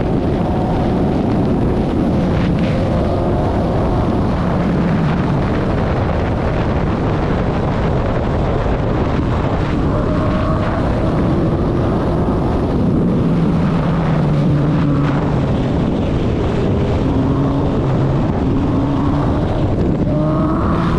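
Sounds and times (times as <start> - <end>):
motorcycle engine running: 0.0 - 20.9
wind noise on microphone: 0.0 - 20.9.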